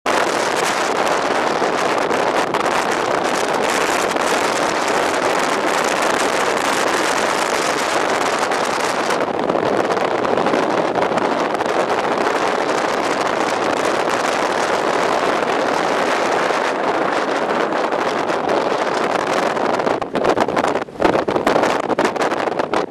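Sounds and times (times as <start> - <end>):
storm wind roaring on microphone: 0.0 - 22.9.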